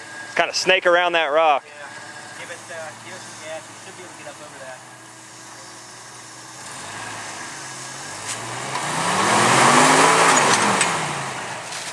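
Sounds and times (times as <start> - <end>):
engine revving under load: 1.6 - 11.9.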